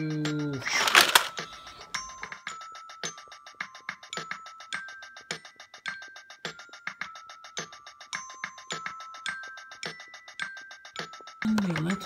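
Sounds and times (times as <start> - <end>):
light instrumental music: 0.0 - 12.0.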